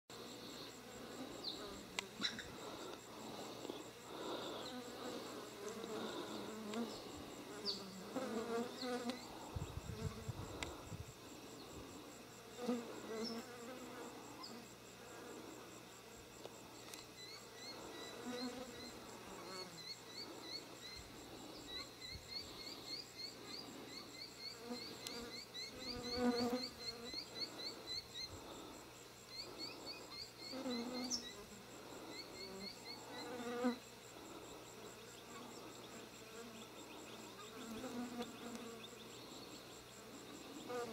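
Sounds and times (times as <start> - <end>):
insects buzzing: 0.1 - 40.9.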